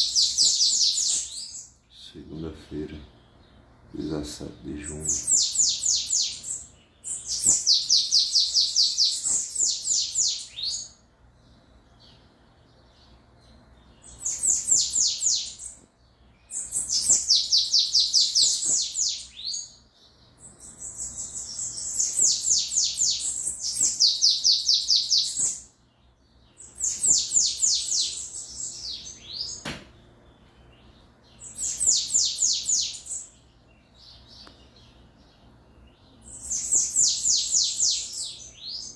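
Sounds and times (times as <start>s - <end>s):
birds singing high thin notes: 0.0s - 38.9s.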